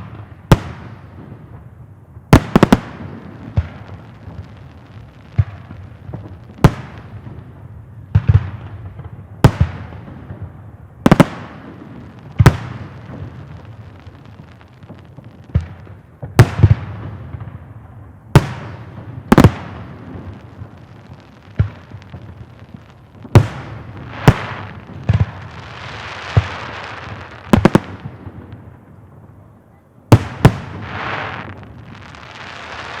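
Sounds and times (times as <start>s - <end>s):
fireworks bangs with echo: 0.0s - 33.0s.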